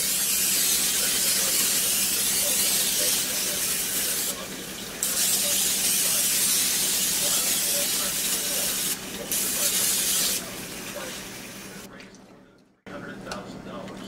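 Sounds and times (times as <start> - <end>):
cooking spray hissing: 0.0 - 11.9.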